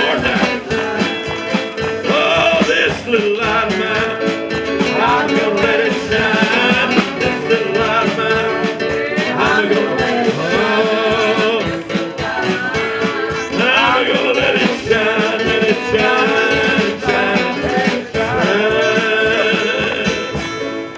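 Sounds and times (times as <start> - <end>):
guitar accompaniment: 0.0 - 20.9
person singing: 0.0 - 20.9.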